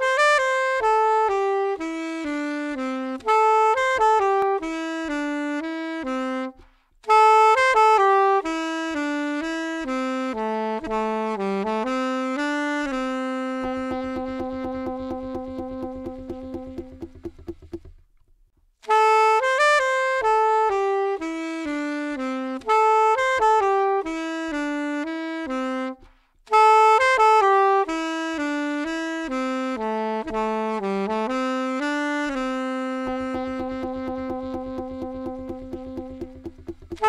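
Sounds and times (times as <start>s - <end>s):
saxophone melody: 0.0s - 18.1s, 18.8s - 37.0s.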